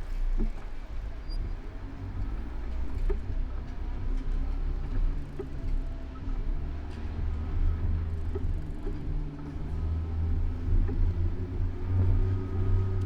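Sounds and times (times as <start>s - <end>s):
faint engine hum: 0.0s - 13.0s
road traffic rumble: 1.1s - 13.0s.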